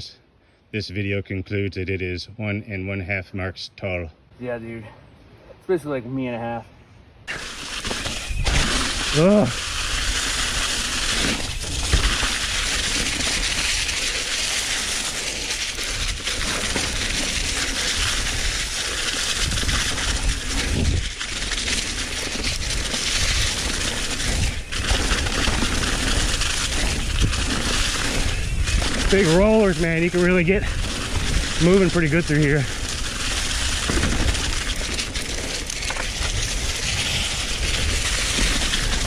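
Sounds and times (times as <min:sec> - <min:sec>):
bike tyres crunching over leaves: 0:07.3 - 0:39.0
low rumble of bike over ground: 0:07.3 - 0:39.0.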